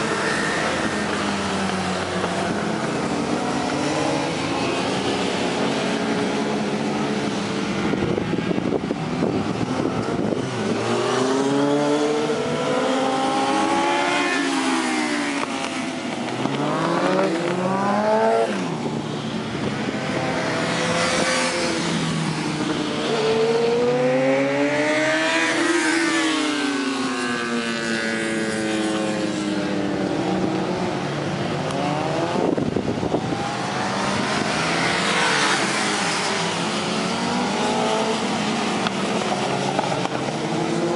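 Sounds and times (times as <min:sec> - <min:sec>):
motorcycle engines racing: 0:00.0 - 0:40.9.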